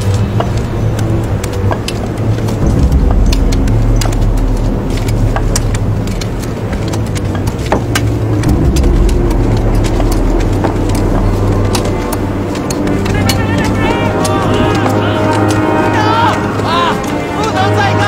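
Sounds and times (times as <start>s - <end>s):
blizzard wind rumble: 0.0s - 18.0s.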